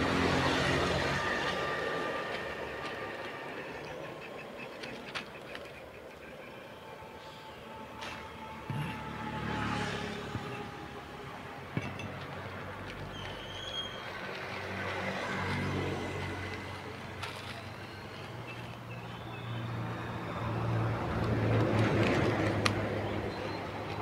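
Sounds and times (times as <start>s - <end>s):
motor scooter passing: 0.0s - 4.2s, 6.7s - 23.9s
vehicles passing: 0.0s - 24.0s.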